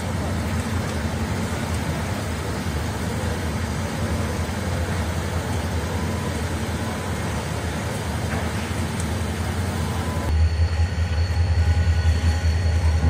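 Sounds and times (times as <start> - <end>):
locomotive engine idling: 0.0 - 13.0.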